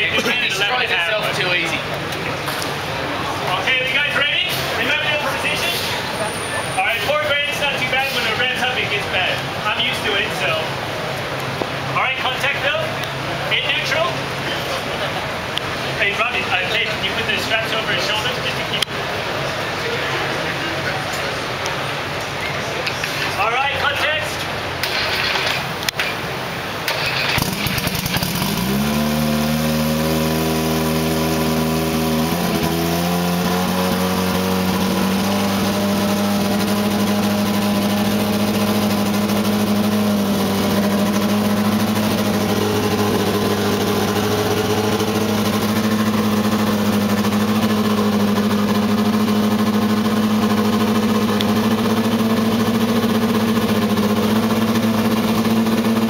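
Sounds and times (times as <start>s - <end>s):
race car engine starting and idling: 0.0s - 56.0s.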